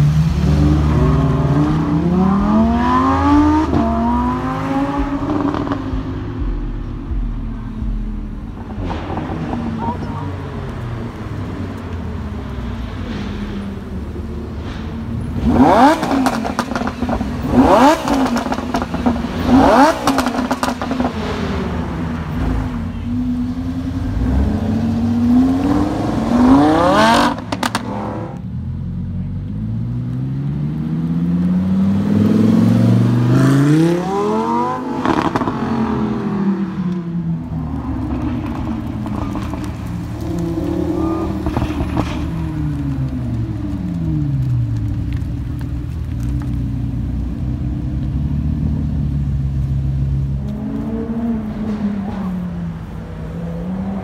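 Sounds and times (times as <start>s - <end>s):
sports car accelerating past: 0.0s - 45.2s
sports car engine revving: 0.0s - 54.0s.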